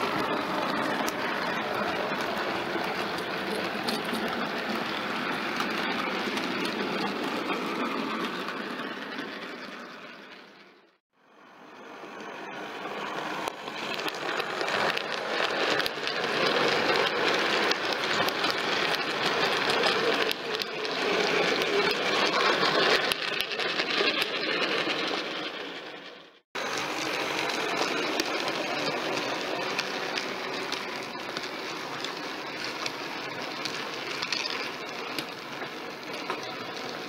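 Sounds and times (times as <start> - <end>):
model train wheels clicking on rails: 0.0 - 11.0, 11.6 - 37.0.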